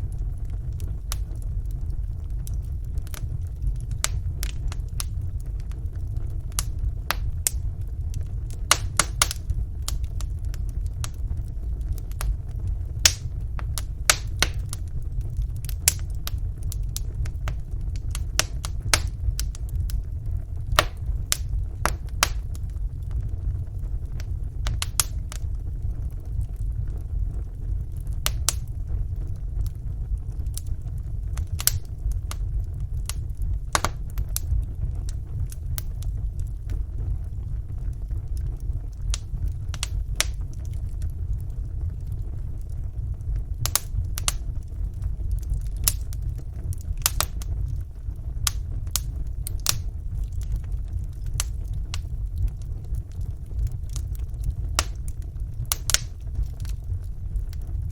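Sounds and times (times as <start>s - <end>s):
fire crackling and popping: 0.0s - 57.9s
low rumble of flames: 0.0s - 57.9s.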